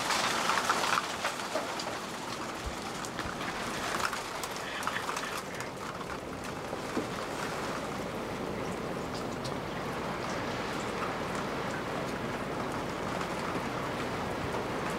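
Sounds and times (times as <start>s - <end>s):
floodwater running over street: 0.0s - 14.9s
heavy rain pouring: 0.0s - 14.9s.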